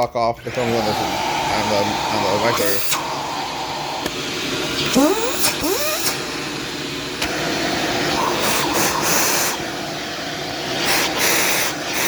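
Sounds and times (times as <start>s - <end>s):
vacuum cleaner airflow hissing: 0.0s - 12.0s.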